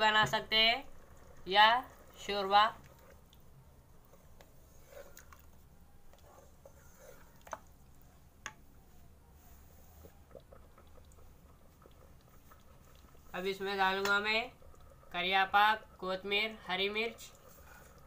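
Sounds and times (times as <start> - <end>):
wooden spoon stirring thick curry: 0.1 - 18.0.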